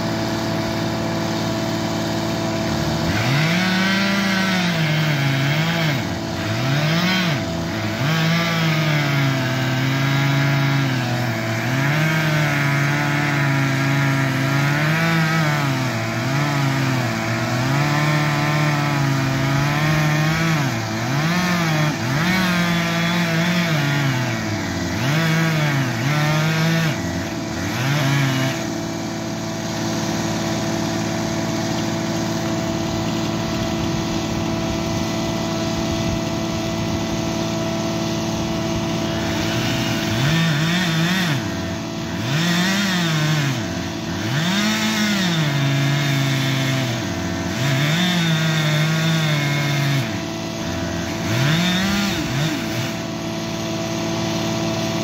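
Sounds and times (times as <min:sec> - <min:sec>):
chainsaw cutting wood: 0:00.0 - 0:55.0
diesel engine drone: 0:00.0 - 0:55.0.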